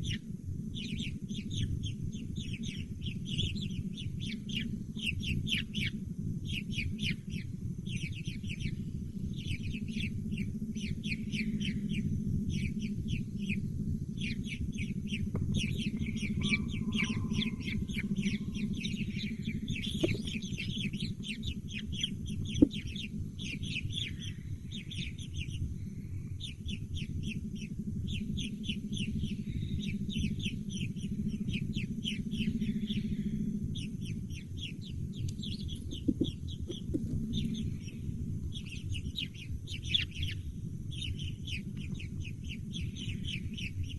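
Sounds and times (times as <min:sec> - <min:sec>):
steady low rumble: 0:00.0 - 0:43.9
young birds chirping: 0:00.0 - 0:43.9.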